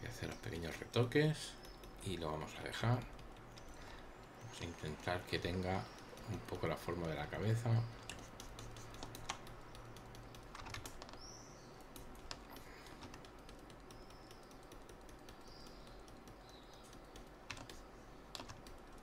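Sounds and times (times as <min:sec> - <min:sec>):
low background hum: 0:00.0 - 0:19.0
keyboard and mouse clicks: 0:00.1 - 0:19.0.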